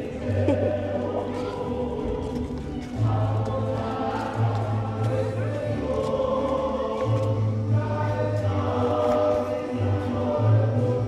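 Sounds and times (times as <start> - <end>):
mariachi music with singing: 0.0 - 11.0.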